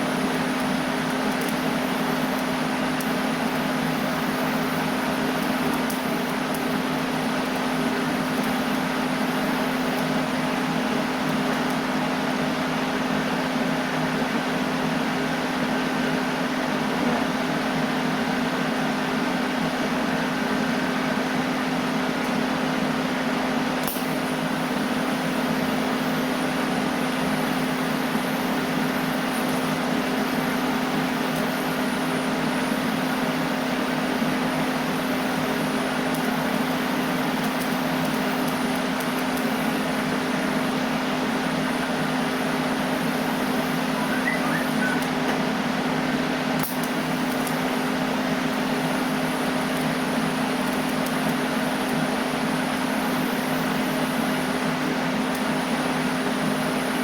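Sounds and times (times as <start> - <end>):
machine hum with hiss: 0.0 - 57.0.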